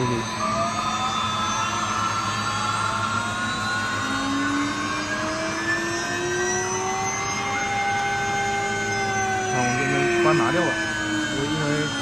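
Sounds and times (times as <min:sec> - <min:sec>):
cnc router whining: 0:00.0 - 0:12.0.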